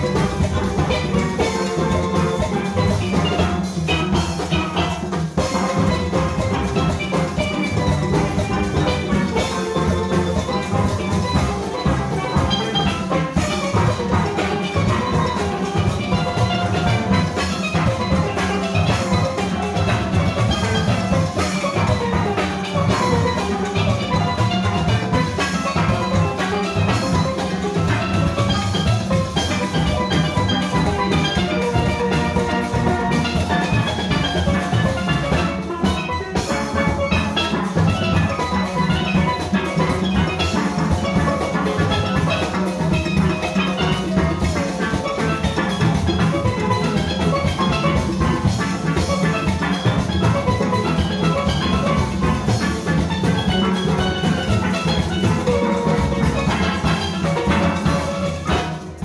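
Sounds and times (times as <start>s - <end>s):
drum kit and percussion: 0.0s - 59.0s
steelpans playing melody: 0.0s - 59.0s.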